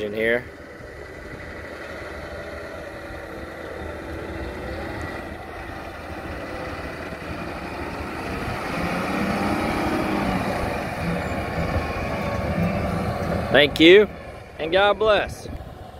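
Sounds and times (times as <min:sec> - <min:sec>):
dump truck diesel engine: 0:00.0 - 0:15.9.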